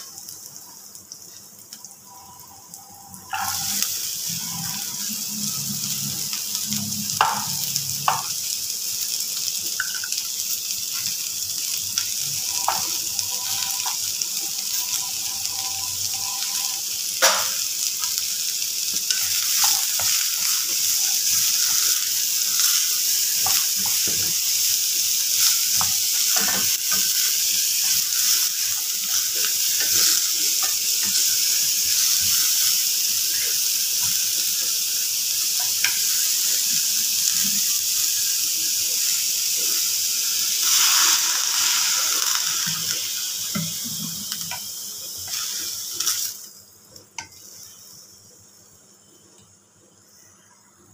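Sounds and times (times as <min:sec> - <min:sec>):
vegetables sizzling in hot oil: 0:00.0 - 0:50.4.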